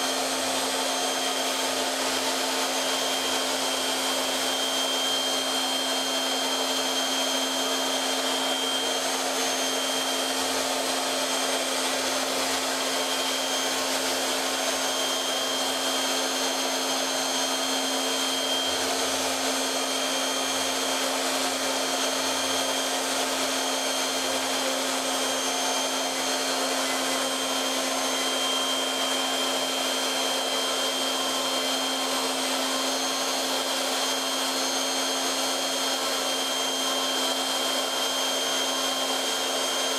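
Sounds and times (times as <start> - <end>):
milling spindle whirring: 0.0 - 39.9
faint high whine: 4.4 - 39.9.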